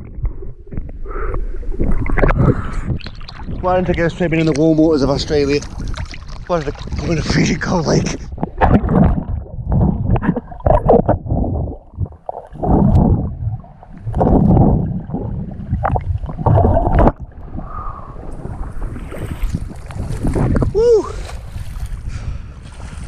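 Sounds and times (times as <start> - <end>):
muffled underwater gurgling: 0.0 - 21.2
water splashing and sloshing: 0.0 - 23.0.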